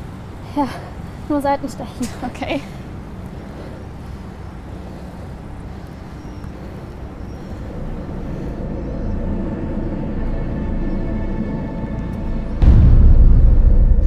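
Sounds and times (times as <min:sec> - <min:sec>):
low held music drone: 0:00.0 - 0:14.0
low outdoor rumble: 0:00.0 - 0:14.0.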